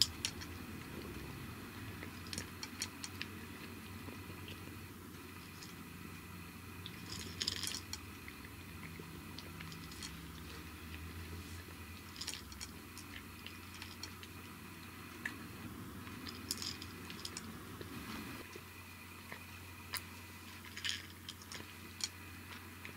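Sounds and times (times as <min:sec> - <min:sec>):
cat crunching dry kibble: 0:00.0 - 0:06.1, 0:06.8 - 0:18.6, 0:19.2 - 0:22.9.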